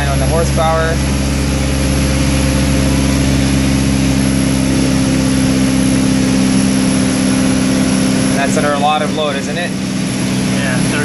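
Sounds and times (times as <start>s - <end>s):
diesel engine droning under load: 0.0s - 11.0s.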